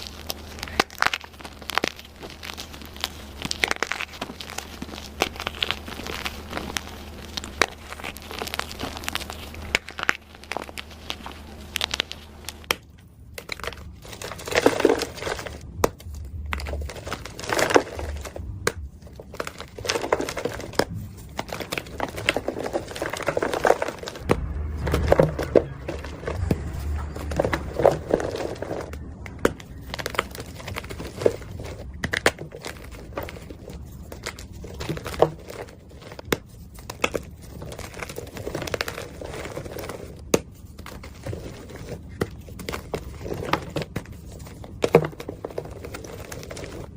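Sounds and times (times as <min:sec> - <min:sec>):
chalk crunching and crackling: 0:00.0 - 0:46.9
powdery crumbling: 0:00.0 - 0:46.9.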